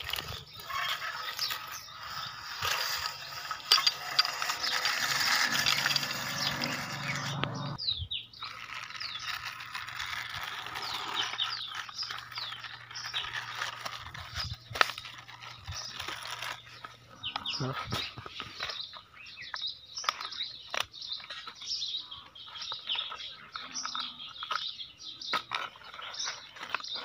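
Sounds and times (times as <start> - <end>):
bird chirps: 0.0 - 9.4, 10.8 - 27.0
toy tractor scraping along dirt: 0.0 - 27.0.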